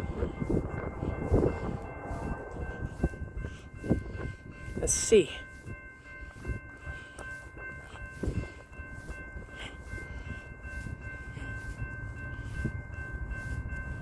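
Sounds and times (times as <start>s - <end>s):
faint steady high tones: 0.0s - 14.0s
freight train rumble: 0.0s - 14.0s.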